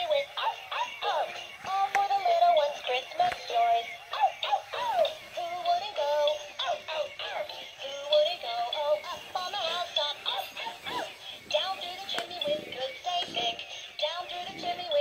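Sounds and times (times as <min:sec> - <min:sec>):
toy singing through tinny speaker: 0:00.0 - 0:15.0.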